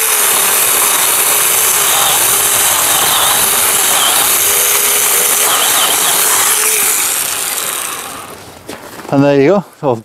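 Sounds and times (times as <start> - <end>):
mini chainsaw cutting wood: 0.0 - 8.7.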